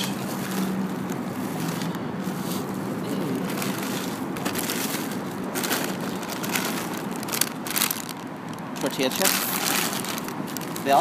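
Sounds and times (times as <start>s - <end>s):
plastic trash bags rustling: 0.0s - 11.0s.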